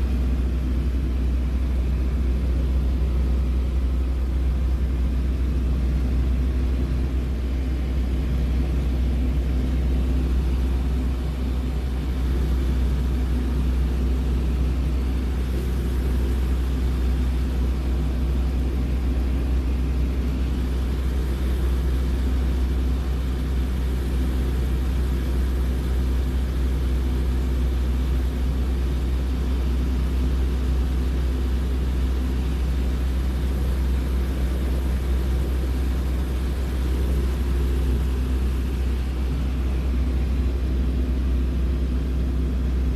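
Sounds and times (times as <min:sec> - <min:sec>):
propeller airplane engine droning: 0:00.0 - 0:42.9.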